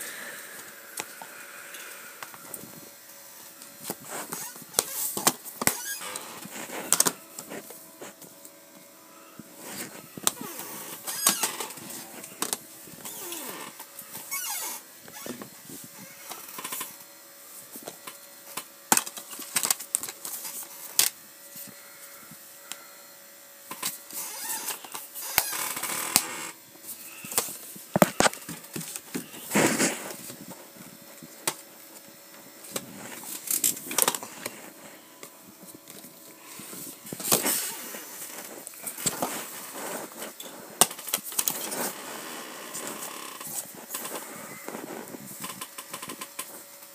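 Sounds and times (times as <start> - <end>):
rustling: 1.3 - 8.5, 9.2 - 16.9, 23.8 - 46.7.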